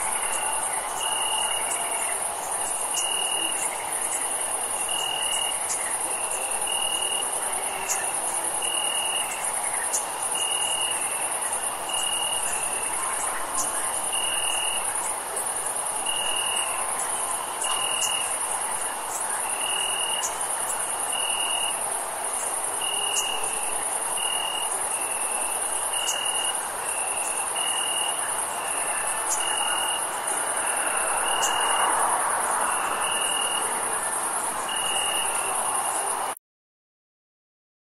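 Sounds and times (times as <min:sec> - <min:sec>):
cricket high trill: 0:00.0 - 0:36.4
lower short cricket chirp: 0:00.0 - 0:36.4.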